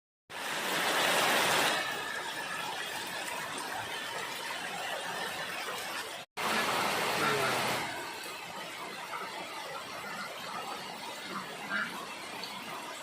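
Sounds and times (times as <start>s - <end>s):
heavy rain falling: 0.3s - 13.0s.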